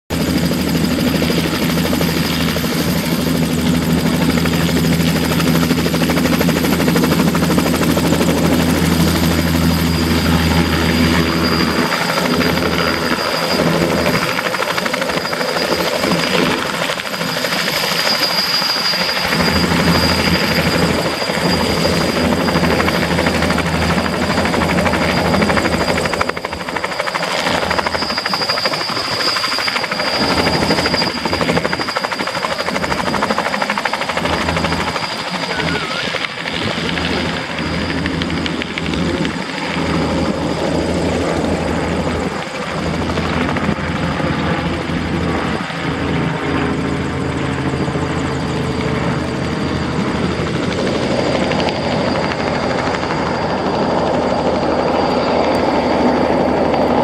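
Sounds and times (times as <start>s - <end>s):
helicopter rotors: 0.1s - 57.0s
helicopter turbine whine: 0.1s - 57.0s.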